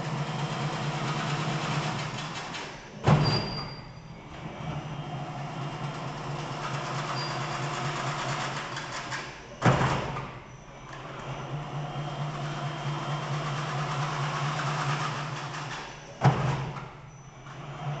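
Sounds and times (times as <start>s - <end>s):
weaving machine humming: 0.0s - 3.2s, 3.8s - 18.0s.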